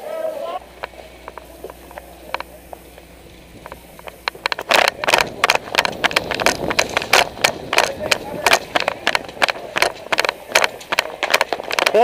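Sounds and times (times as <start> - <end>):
running footsteps: 0.0 - 12.0.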